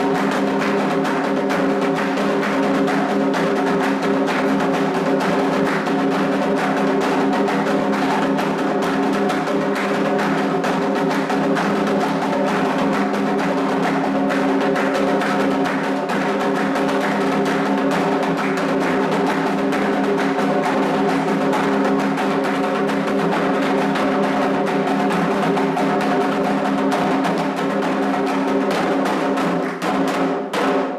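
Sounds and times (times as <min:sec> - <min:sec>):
hand drums playing: 0:00.0 - 0:30.9.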